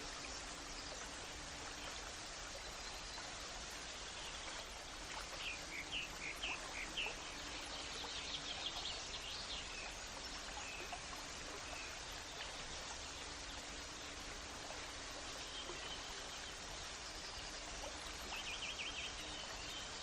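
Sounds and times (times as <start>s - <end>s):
hiss of running water: 0.0s - 20.0s.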